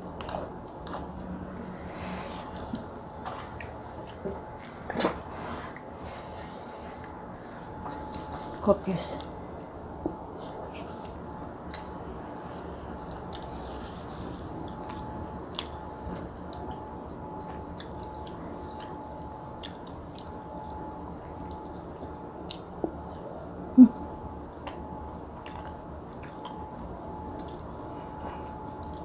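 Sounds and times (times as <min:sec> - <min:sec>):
person chewing food: 0:00.0 - 0:05.1, 0:09.2 - 0:29.0
faint hum: 0:00.0 - 0:29.0.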